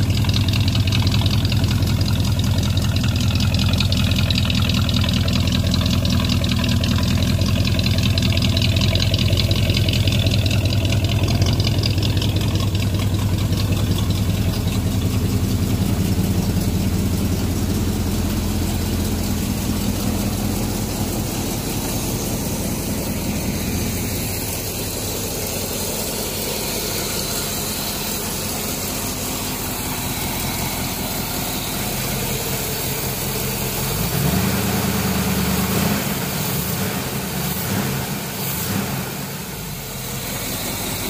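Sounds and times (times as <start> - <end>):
car engine idling: 0.0 - 41.0
engine revving: 0.8 - 41.0.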